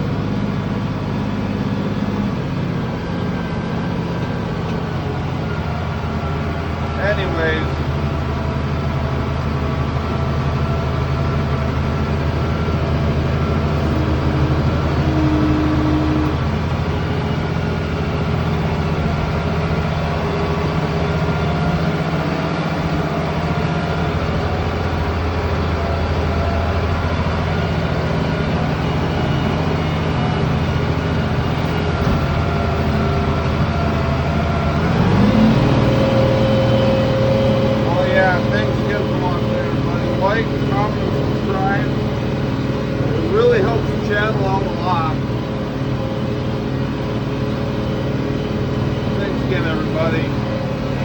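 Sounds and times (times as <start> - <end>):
tractor diesel engine drone: 0.0 - 51.0.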